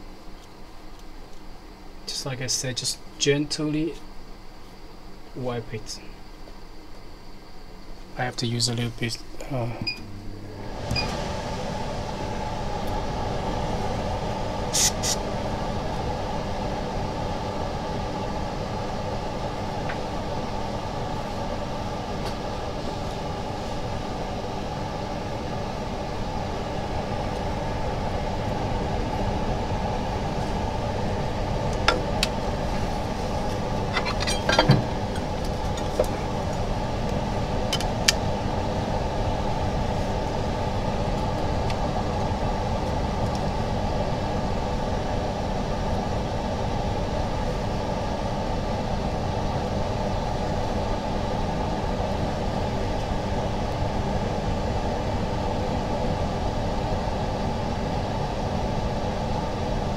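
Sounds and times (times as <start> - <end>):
machinery humming: 7.4 - 59.9.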